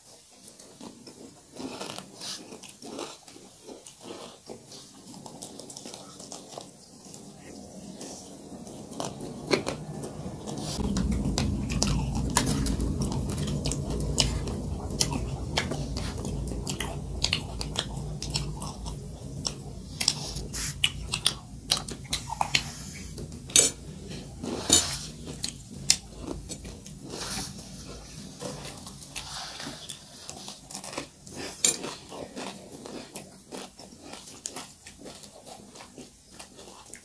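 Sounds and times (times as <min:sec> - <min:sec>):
person chewing and crunching food: 0:00.0 - 0:37.0.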